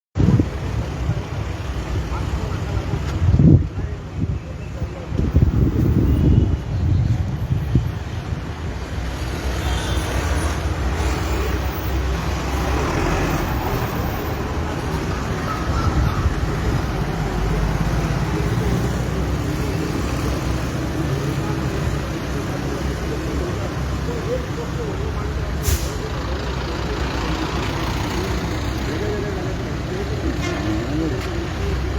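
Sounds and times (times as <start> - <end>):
road traffic: 0.2 - 31.9.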